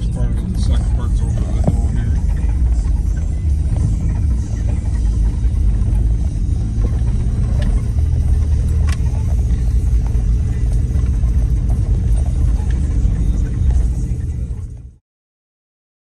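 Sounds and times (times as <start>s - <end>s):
engine and tyres rumbling: 0.0s - 15.0s.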